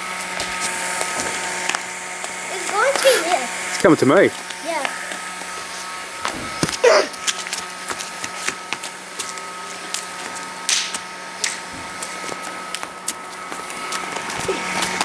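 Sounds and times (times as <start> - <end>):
small motor whirring hum: 0.0 - 15.0.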